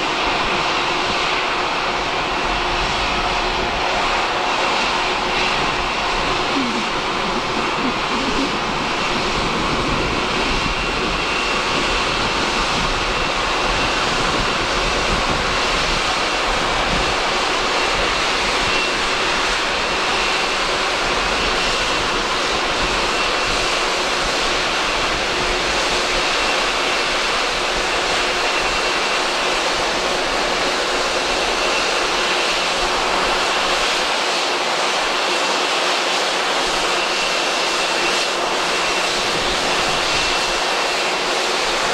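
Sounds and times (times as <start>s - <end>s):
jet engines taxiing: 0.0s - 41.9s.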